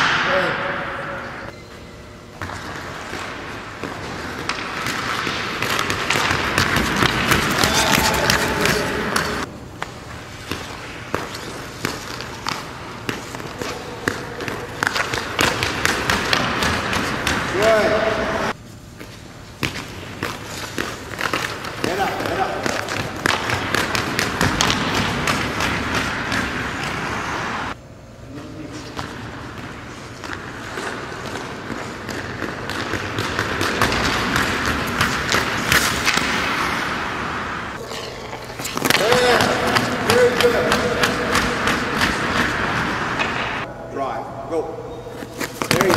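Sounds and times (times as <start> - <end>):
hockey stick striking ice: 0.0 - 0.6, 2.4 - 18.5, 19.6 - 27.8, 28.9 - 43.7
skates scraping on ice: 2.4 - 27.8, 28.7 - 43.7, 45.2 - 45.9.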